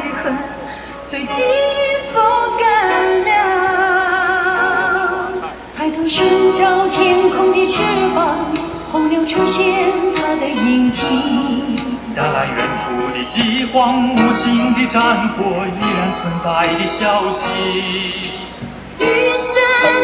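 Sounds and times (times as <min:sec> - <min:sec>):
pop ballad with singer: 0:00.0 - 0:20.0.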